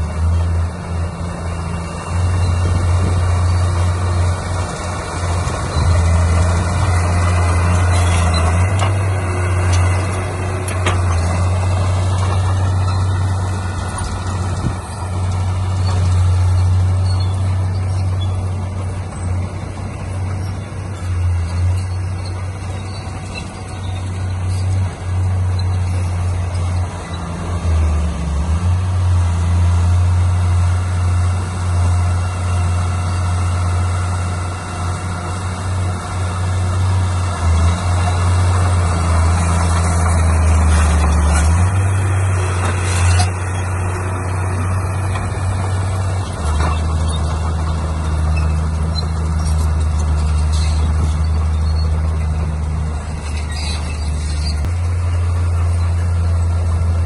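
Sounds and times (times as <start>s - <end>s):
diesel earthmoving machinery running: 0.0s - 57.0s
high scraping squeal: 1.7s - 19.4s, 20.2s - 27.9s, 35.7s - 56.5s.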